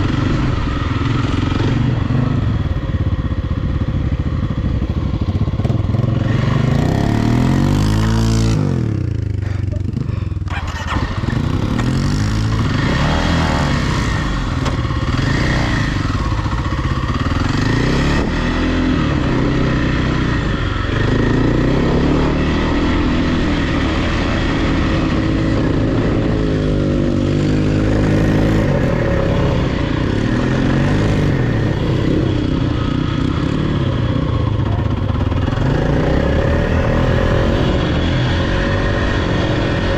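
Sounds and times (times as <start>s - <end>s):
off-road vehicle engine revving: 5.6s - 39.9s.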